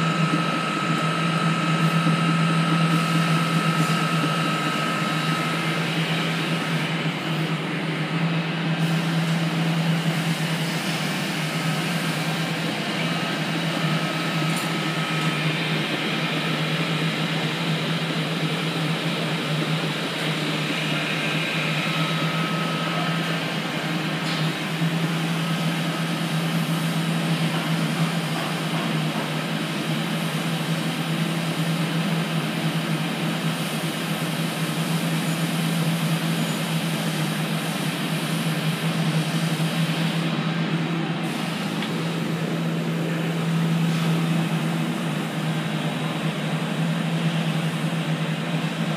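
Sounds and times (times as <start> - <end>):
pump motor running with low hum: 0.0 - 48.9.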